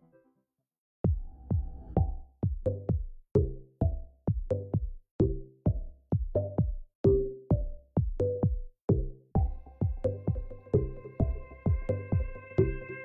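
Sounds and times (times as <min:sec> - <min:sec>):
drum machine beat: 0:01.0 - 0:13.0.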